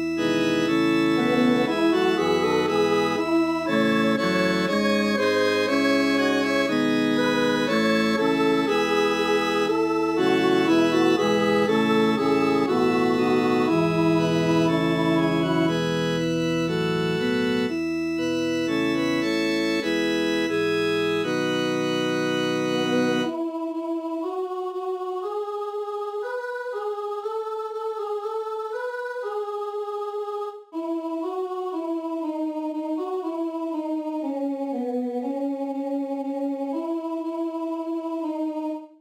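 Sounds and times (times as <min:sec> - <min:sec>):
synthesized choral chords: 0:00.0 - 0:39.0.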